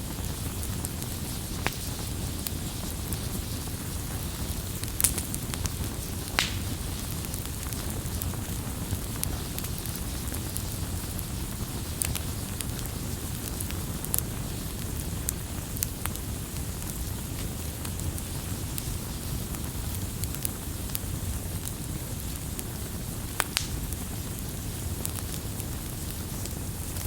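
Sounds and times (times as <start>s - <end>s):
campfire rumble: 0.0s - 27.0s
wood crackling and popping: 0.0s - 27.0s.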